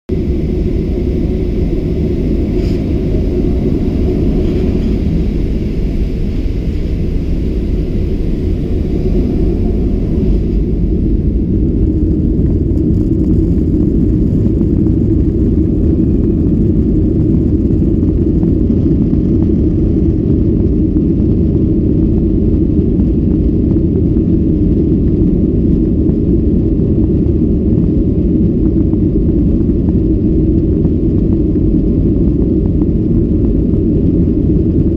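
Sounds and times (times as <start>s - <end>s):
jet engine low rumble: 0.0s - 34.9s
airframe rolling on taxiway: 0.1s - 34.9s.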